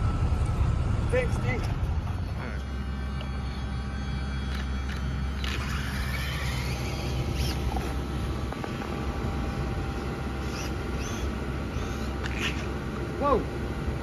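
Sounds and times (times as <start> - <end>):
electric motor whining: 1.8 - 14.0.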